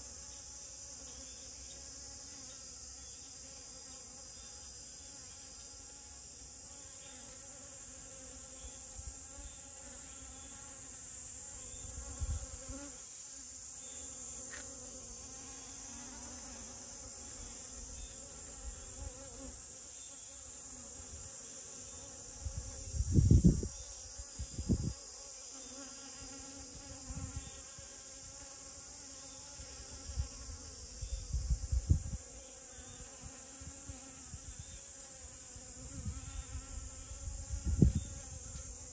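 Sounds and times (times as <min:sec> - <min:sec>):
high-pitched insect trill: 0:00.0 - 0:38.9
honeybee buzzing: 0:00.2 - 0:38.9.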